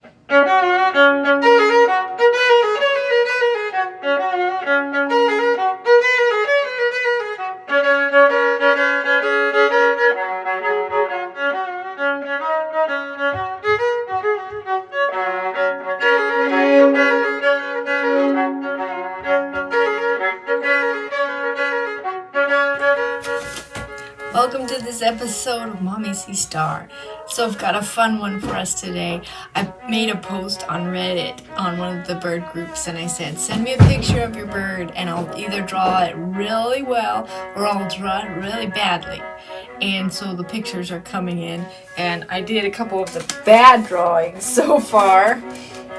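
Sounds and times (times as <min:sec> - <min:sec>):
violin melody: 0:00.0 - 0:45.9.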